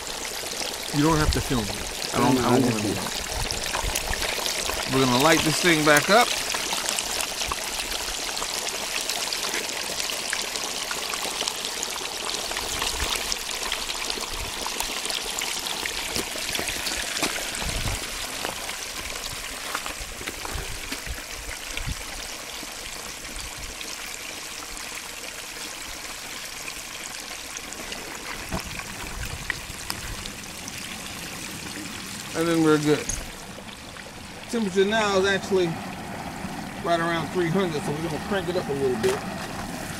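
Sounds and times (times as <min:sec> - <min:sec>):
hot oil sizzling: 0:00.0 - 0:39.9.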